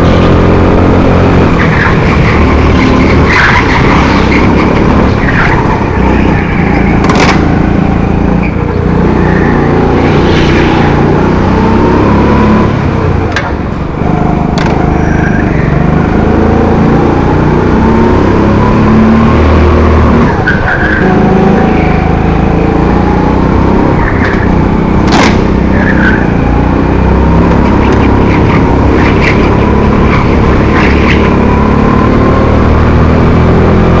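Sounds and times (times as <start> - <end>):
kart engine running hard: 0.0 - 34.0.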